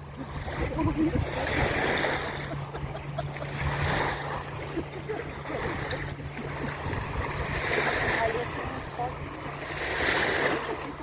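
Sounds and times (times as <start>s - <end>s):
low motor hum: 0.0s - 11.0s
waves washing onto beach: 0.0s - 11.0s.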